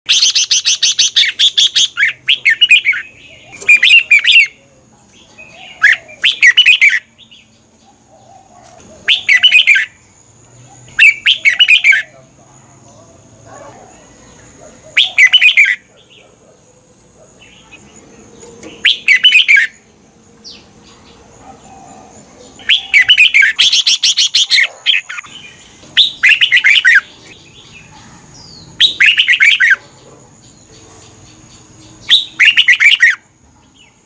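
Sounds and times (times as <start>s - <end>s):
bird singing: 0.1s - 34.0s.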